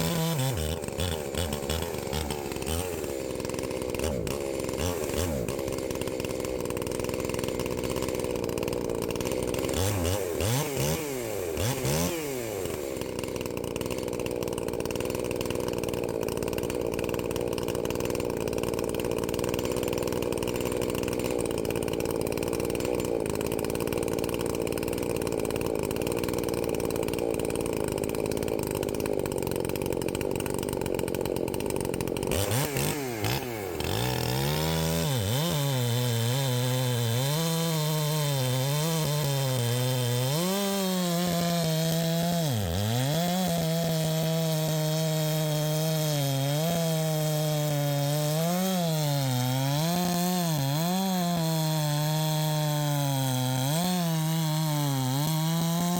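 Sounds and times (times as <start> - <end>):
chainsaw running at high throttle: 0.0 - 55.9.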